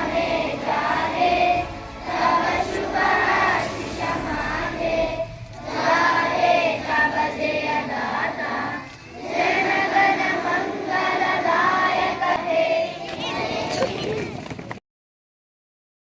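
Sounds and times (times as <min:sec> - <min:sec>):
children singing in unison: 0:00.0 - 0:13.8.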